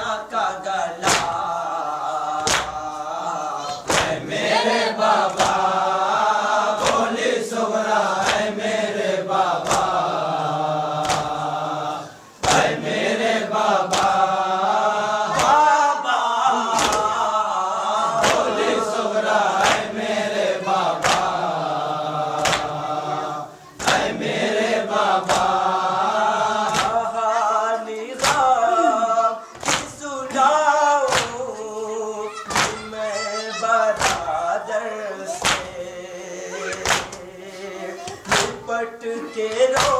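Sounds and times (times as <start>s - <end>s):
voices chanting in chorus: 0.0s - 39.9s.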